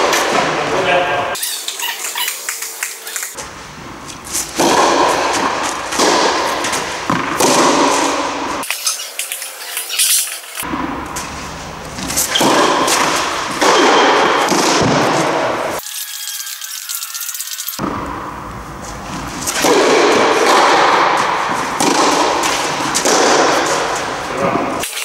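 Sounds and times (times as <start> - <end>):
rackets hitting tennis balls: 0.0 - 15.9, 17.8 - 25.0.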